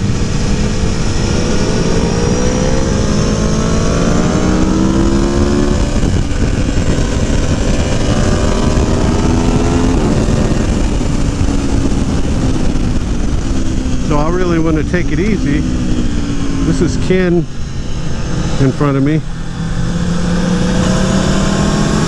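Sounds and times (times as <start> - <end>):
motorcycle engine revving through gears: 0.0 - 22.0
wind rush: 0.0 - 22.0.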